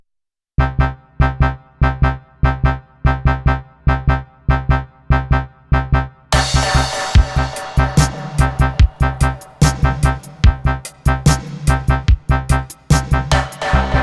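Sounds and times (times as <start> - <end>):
deep bass: 0.6 - 14.0
synthesizer riff: 0.6 - 14.0.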